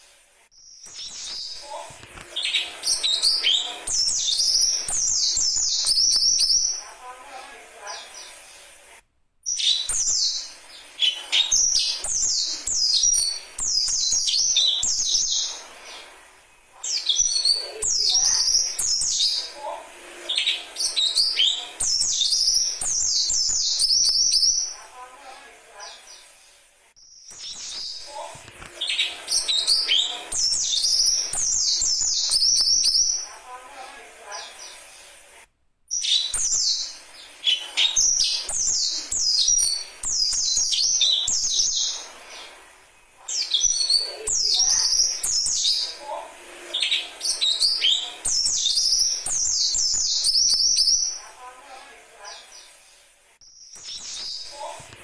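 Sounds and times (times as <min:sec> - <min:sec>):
young birds chirping: 0:00.5 - 0:08.8, 0:09.4 - 0:26.4, 0:27.0 - 0:35.0, 0:35.9 - 0:52.8, 0:53.4 - 0:55.0.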